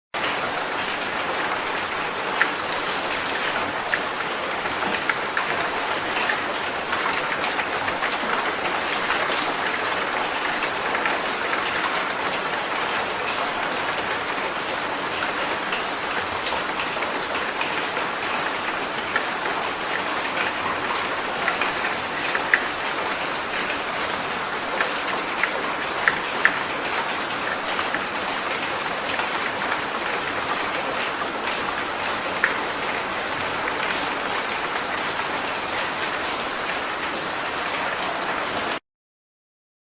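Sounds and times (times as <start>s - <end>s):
raindrops ticking: 0.2s - 35.7s
rain hissing on surfaces: 0.2s - 38.8s.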